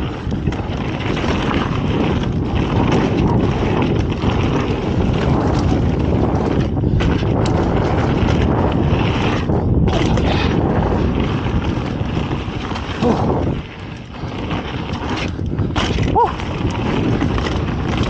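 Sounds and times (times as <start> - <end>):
mountain bike rolling on dirt: 0.0 - 18.0
wind buffeting microphone: 0.0 - 18.0.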